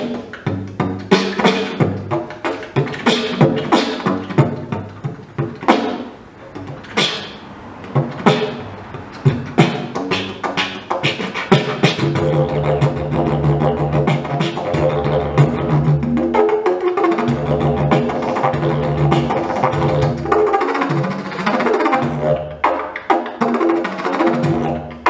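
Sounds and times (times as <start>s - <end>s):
didgeridoo low drone: 0.0s - 25.0s
didgeridoo vocal accents: 0.0s - 25.0s.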